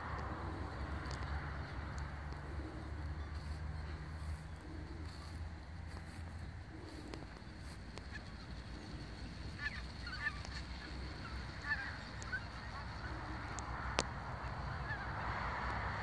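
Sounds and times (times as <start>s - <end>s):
geese honking: 0.0s - 15.6s
low background rumble: 0.0s - 16.0s.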